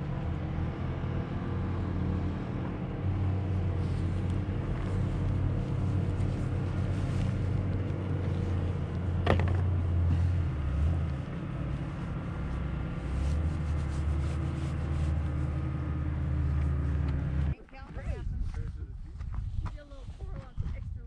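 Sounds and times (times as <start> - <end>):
engine idling: 0.0 - 18.2.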